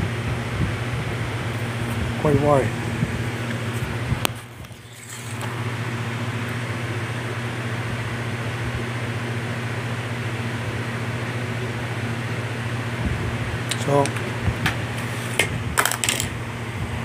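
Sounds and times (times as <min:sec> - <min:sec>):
electric hum: 0:00.0 - 0:17.0
fan air hiss: 0:00.0 - 0:17.0.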